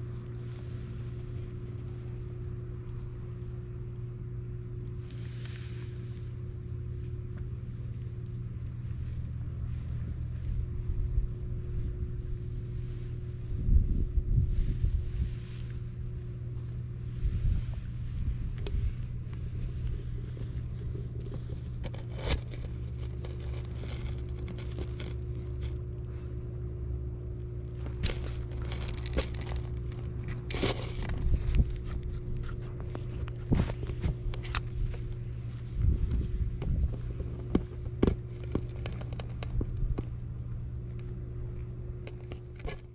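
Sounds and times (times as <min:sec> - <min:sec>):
steady low hum: 0:00.0 - 0:42.9
gravel crunching and scraping: 0:04.8 - 0:42.9.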